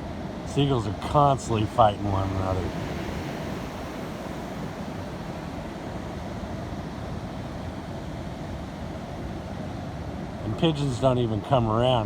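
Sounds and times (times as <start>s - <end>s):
ocean surf: 0.0s - 12.0s
steady wind: 0.0s - 12.0s.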